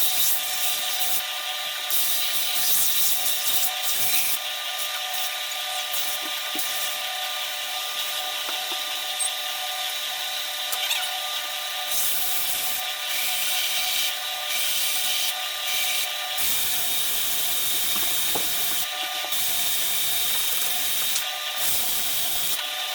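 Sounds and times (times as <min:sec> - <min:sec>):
electric sander on wood: 0:02.4 - 0:22.9.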